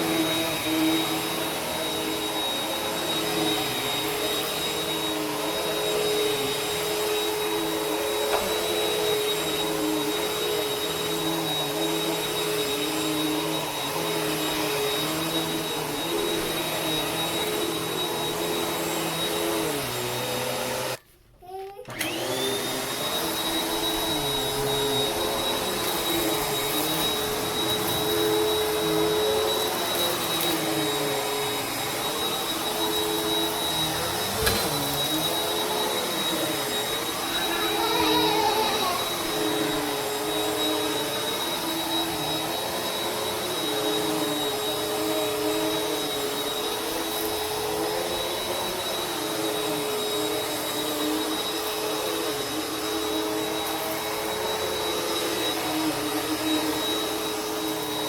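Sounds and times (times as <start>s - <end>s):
vacuum cleaner motor whining: 0.0s - 21.0s, 21.6s - 58.0s.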